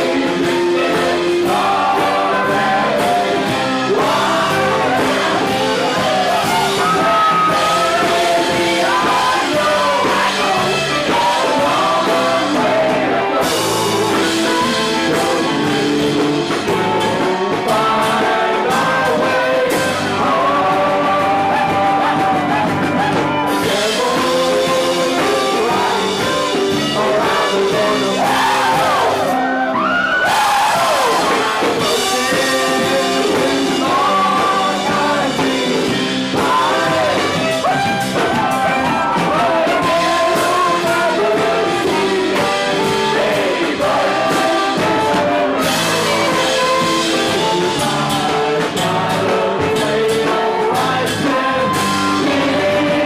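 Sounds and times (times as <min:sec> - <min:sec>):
live rock band playing: 0:00.0 - 0:53.0
sliding guitar melody: 0:00.0 - 0:53.0.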